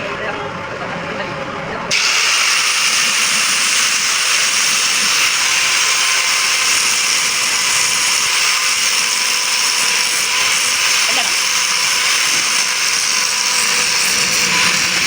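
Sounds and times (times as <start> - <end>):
arc welding hiss: 1.9 - 15.0.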